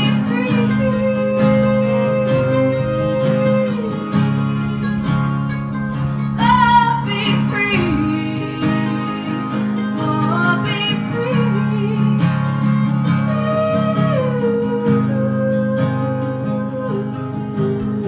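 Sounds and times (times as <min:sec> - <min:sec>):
picked mandolin: 0:00.0 - 0:18.0
strummed acoustic guitar: 0:00.0 - 0:18.0.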